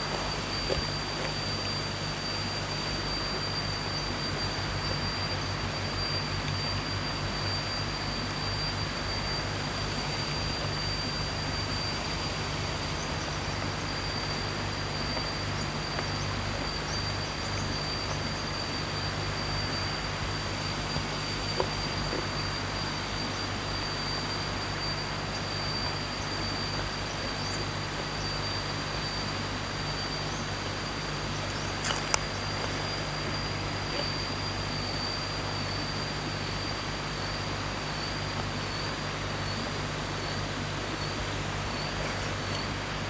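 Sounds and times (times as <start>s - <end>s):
high-pitched whine: 0.0s - 43.0s.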